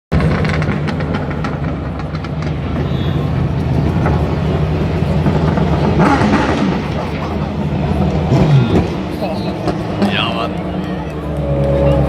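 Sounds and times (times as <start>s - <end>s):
exhaust crackles and pops: 0.1s - 12.0s
race car engine running: 0.1s - 12.0s.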